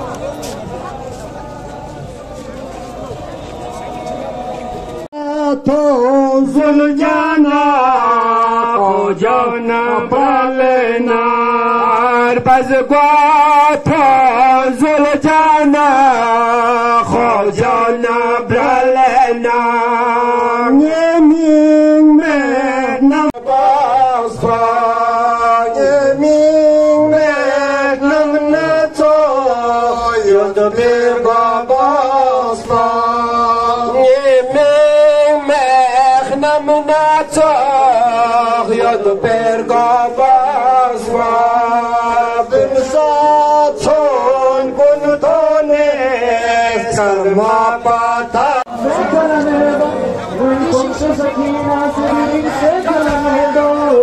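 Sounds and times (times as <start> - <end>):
man singing a slow lament: 5.0 - 54.0.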